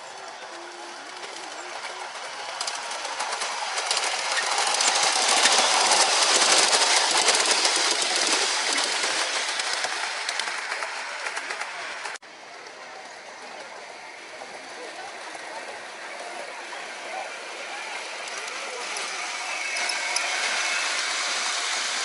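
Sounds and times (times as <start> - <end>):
model train wheels clicking on rails: 0.0 - 22.0.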